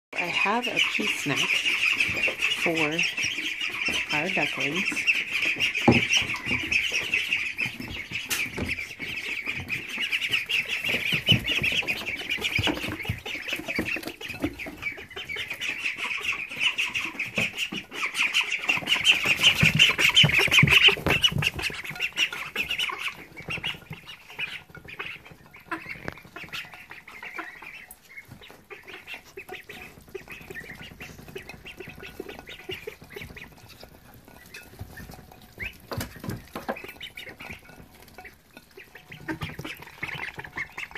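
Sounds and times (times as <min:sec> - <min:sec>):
ducklings peeping: 0:00.1 - 0:40.9.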